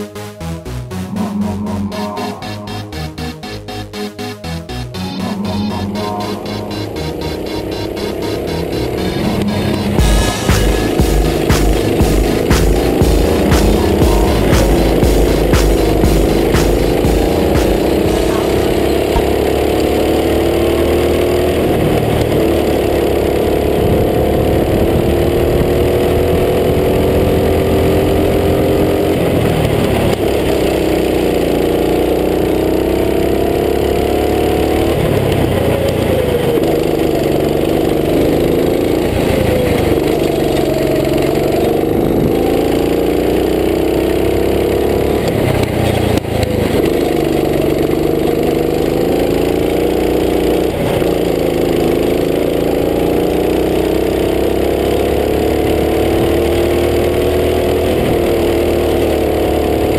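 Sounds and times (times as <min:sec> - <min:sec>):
go-kart engine revving: 0:05.0 - 0:59.9.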